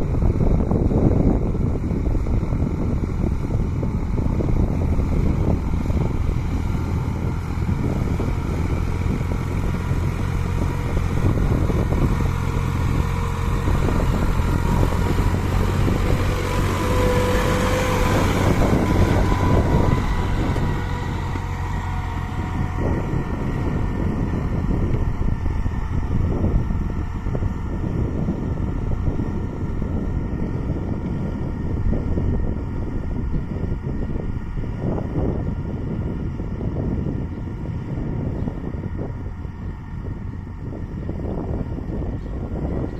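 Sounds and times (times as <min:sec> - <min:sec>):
tractor engine under load: 0:00.0 - 0:42.9.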